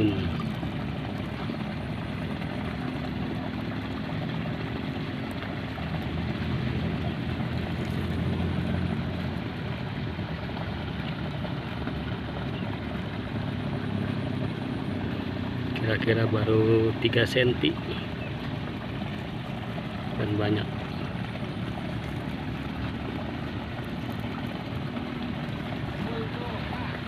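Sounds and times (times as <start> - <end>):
motor running: 0.0 - 27.0.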